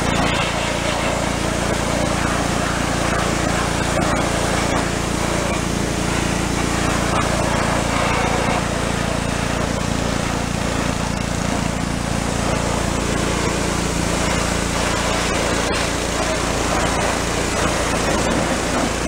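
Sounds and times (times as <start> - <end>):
pressure washer motor drone: 0.0 - 19.0
water jet hissing: 0.0 - 19.0.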